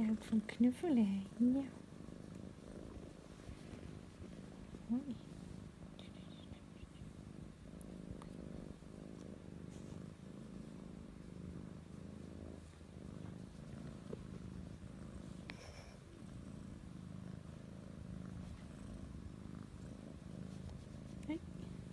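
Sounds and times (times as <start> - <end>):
kitten purring: 0.0 - 21.9.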